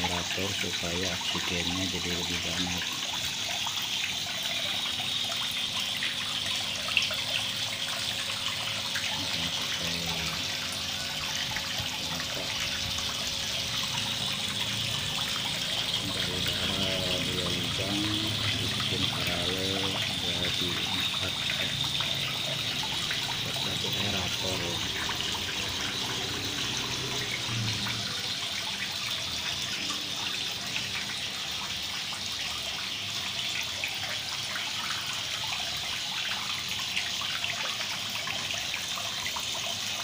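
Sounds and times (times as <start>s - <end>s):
aeration bubbles: 0.0s - 40.0s
water splashing into pond: 0.0s - 40.0s.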